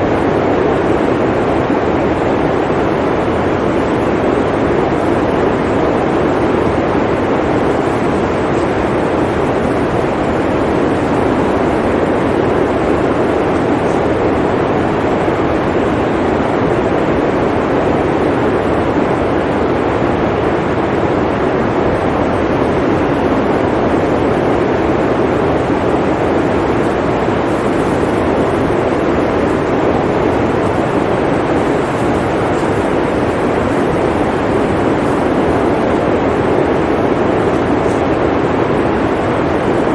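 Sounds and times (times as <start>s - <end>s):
blizzard wind blowing: 0.0s - 39.9s.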